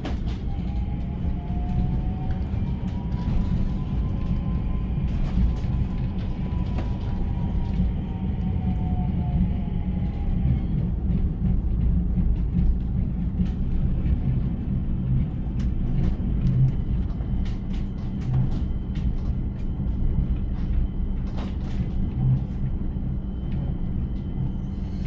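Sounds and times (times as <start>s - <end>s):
tram wheels rumbling: 0.0s - 25.0s.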